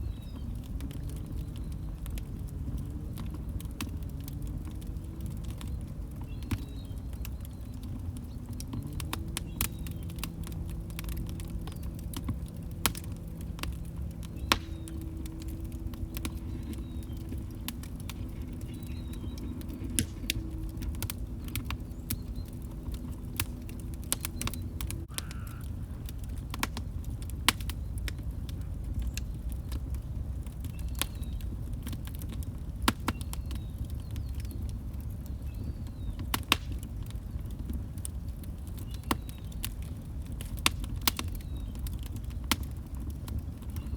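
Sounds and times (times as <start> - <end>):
log fire crackling: 0.0 - 43.9.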